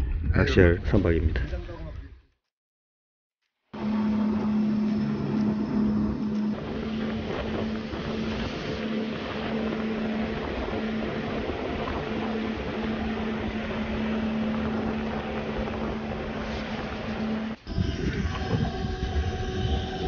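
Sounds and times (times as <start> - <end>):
outboard motor hum: 3.8 - 20.0
rush of wind and water: 3.8 - 20.0.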